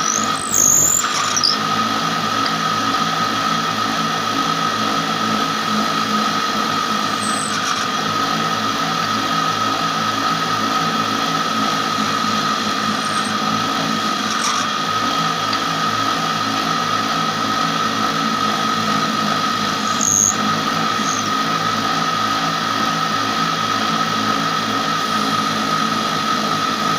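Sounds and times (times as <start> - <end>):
wood-splitting machine whining: 0.0 - 26.9.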